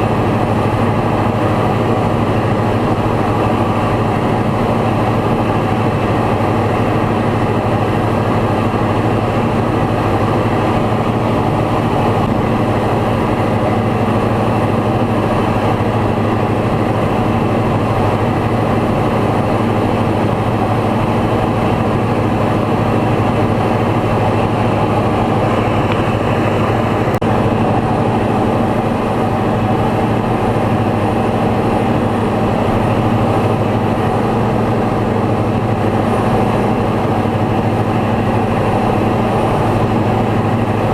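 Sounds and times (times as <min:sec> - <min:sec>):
light aircraft engine droning: 0:00.0 - 0:40.9.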